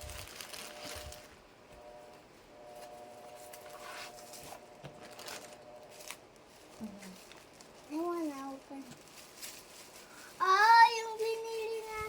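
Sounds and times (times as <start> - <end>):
packaging rustling: 0.0 - 1.4, 2.8 - 12.0
faint steady hum: 0.0 - 12.0.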